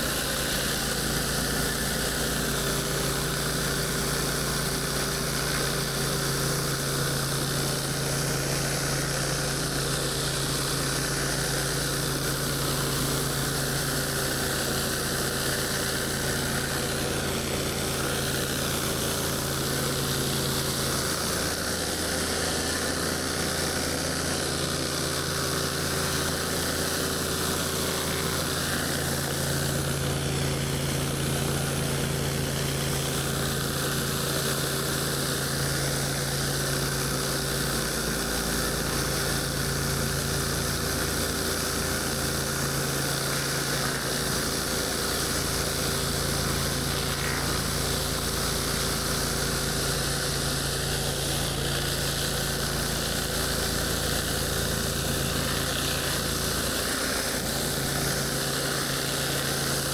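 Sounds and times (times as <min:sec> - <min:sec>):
pressure washer engine running: 0:00.0 - 0:59.9
water spraying onto concrete: 0:00.0 - 0:59.9.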